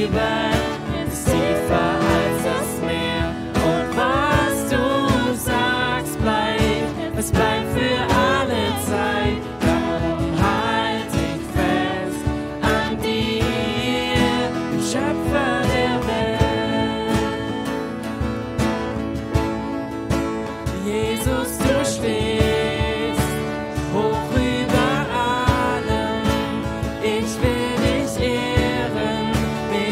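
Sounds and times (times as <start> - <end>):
man singing worship song: 0.0 - 17.8, 20.8 - 29.9
acoustic guitar strumming: 0.0 - 29.9.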